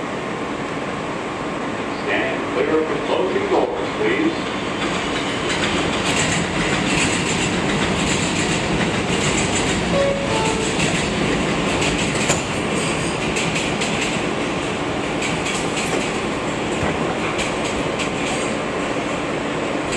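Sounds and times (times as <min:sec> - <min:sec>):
subway train wheels rumbling: 0:00.0 - 0:19.9.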